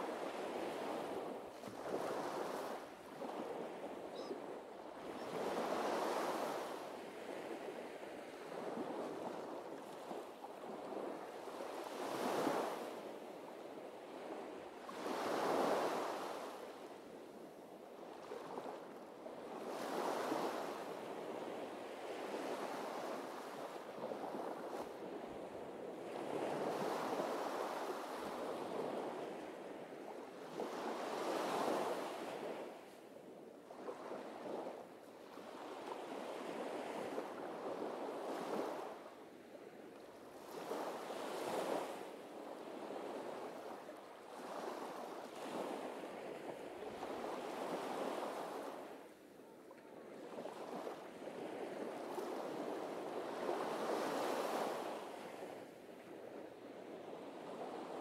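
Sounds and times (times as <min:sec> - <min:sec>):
sea waves breaking on a beach: 0:00.0 - 0:58.0.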